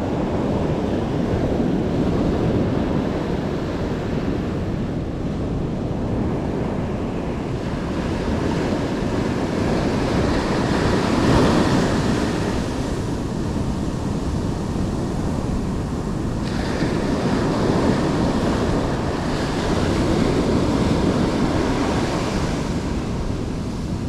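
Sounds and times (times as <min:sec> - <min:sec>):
ocean surf on shore: 0:00.0 - 0:24.0
wind rumbling on microphone: 0:00.0 - 0:24.0.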